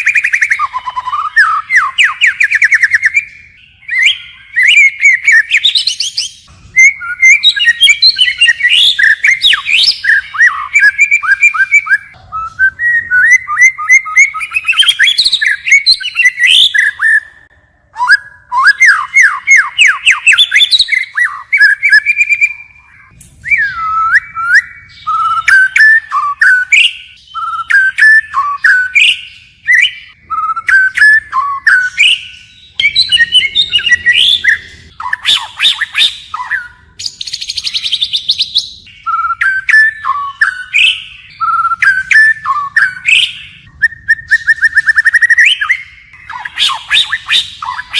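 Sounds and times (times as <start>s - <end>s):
bird singing whistled phrases: 0.0s - 47.9s.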